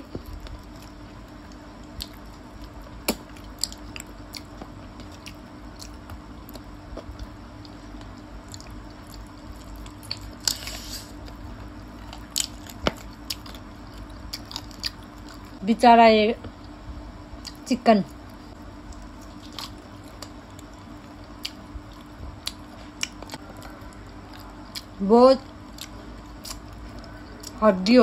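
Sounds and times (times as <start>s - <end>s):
people chewing food: 0.0s - 15.6s, 16.5s - 27.6s
steady low hum: 0.0s - 28.0s.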